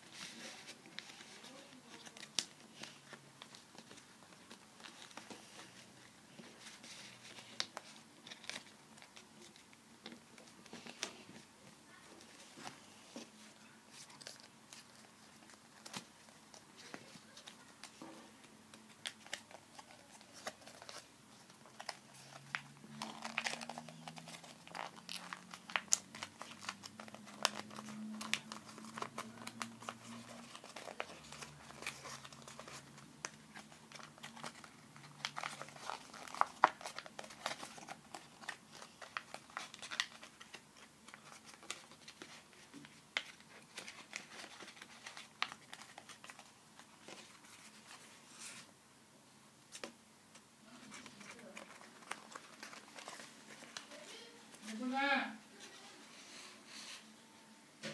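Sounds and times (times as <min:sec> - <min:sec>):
paper being folded and creased: 0:00.0 - 0:48.7, 0:49.7 - 0:54.9.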